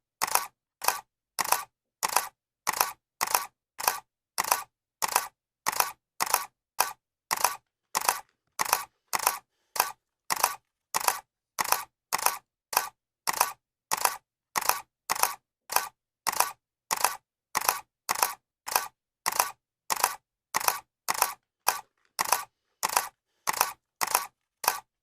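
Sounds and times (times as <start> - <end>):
camera shutter clicking: 0.2 - 24.9.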